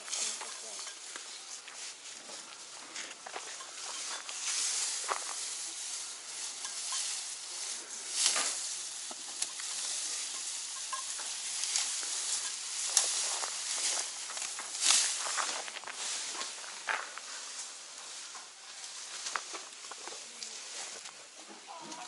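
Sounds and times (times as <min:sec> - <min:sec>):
elephants crackling dry straw: 0:00.0 - 0:22.0.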